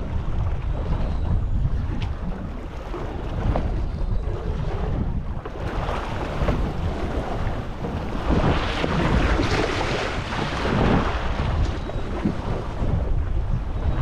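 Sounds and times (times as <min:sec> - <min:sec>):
waves splashing against hull: 0:00.0 - 0:14.0
wind buffeting microphone: 0:00.0 - 0:14.0.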